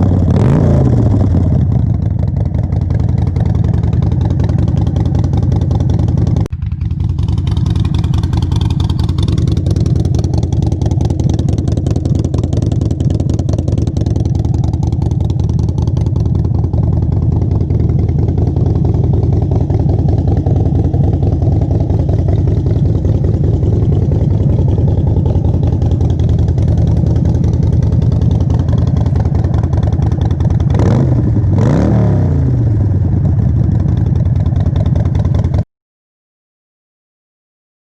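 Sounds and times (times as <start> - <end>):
motorcycle engine idling: 0.0 - 35.6.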